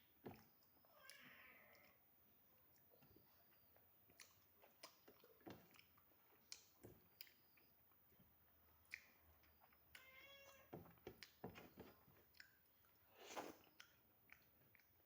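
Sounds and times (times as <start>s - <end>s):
chewing soft food: 0.3s - 10.1s, 10.9s - 15.0s.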